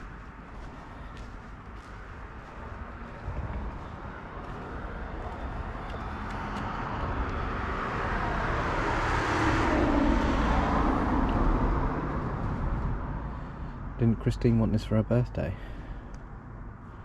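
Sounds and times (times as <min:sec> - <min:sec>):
vehicle passing by: 0:00.0 - 0:14.3.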